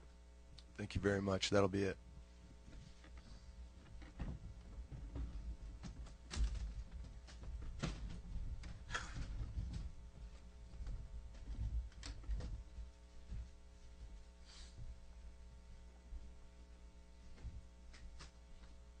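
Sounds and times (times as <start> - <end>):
faint electrical hum: 0.0 - 19.0
low room rumble: 0.0 - 19.0.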